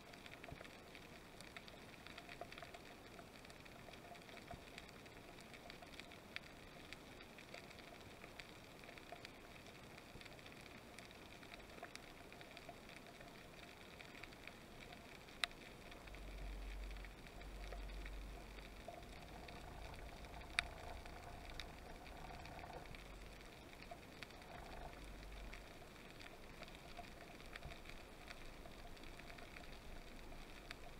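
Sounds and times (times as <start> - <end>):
sharp clicks and crackles: 0.0 - 30.9.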